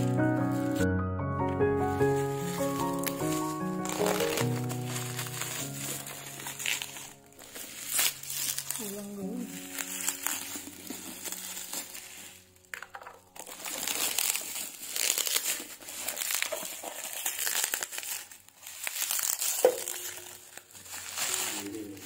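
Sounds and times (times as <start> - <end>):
bubble wrap and plastic crinkling: 0.0 - 22.0.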